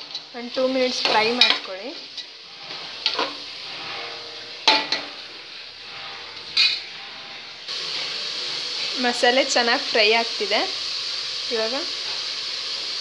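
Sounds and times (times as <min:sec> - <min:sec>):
metal spoon scraping pot: 0:00.0 - 0:10.5
meat frying and sizzling: 0:00.0 - 0:13.0.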